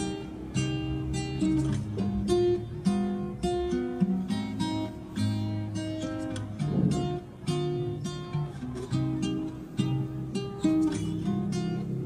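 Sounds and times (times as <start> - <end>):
plucked acoustic guitar melody: 0.0 - 12.0.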